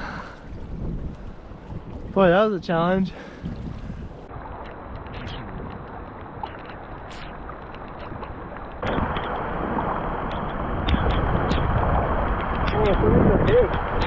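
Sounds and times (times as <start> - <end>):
rain and wind: 0.0 - 14.0.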